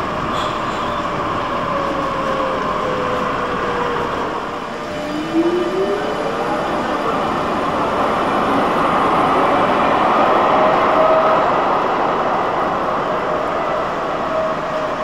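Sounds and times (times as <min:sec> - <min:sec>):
tram rolling past: 0:00.0 - 0:15.0.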